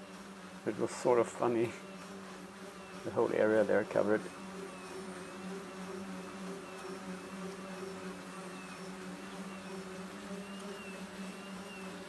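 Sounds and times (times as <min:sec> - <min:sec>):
electric motors and propellers buzzing: 0:00.0 - 0:12.0
faint wavering whine: 0:00.0 - 0:12.0.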